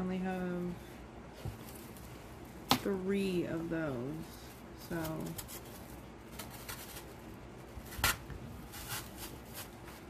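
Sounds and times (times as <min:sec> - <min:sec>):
artificial greenery rustling: 0:00.3 - 0:10.0.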